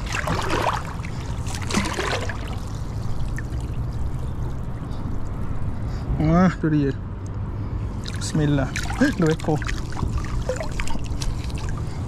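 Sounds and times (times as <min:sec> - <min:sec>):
water splashing and sloshing: 0:00.0 - 0:06.0, 0:07.9 - 0:12.0.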